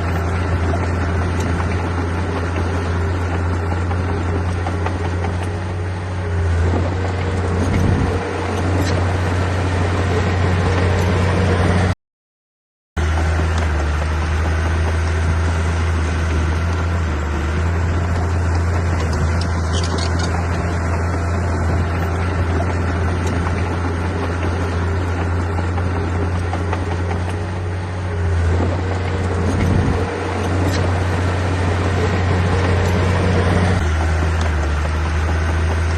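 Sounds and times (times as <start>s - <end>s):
diesel engine of earthmoving machine: 0.0s - 12.0s, 13.0s - 35.9s.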